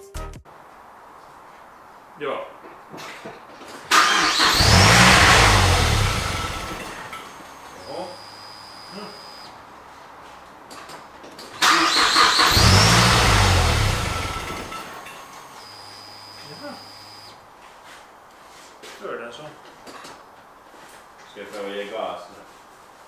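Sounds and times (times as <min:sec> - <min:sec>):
car engine starting: 0:00.5 - 0:22.8.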